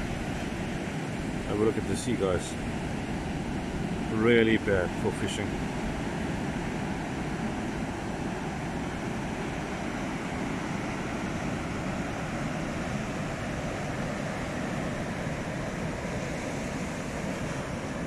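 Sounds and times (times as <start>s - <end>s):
heavy surf breaking on beach: 0.0s - 18.0s.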